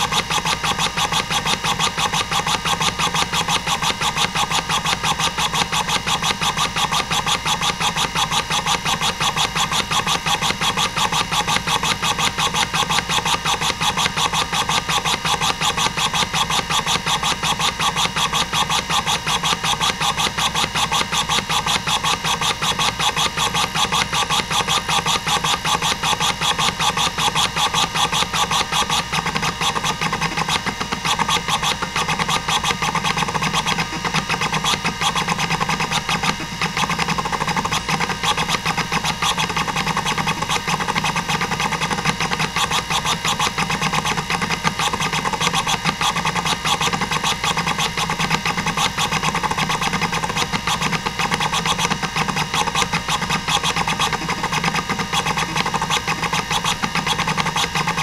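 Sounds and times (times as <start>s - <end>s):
hard drive hum: 0.0s - 58.0s.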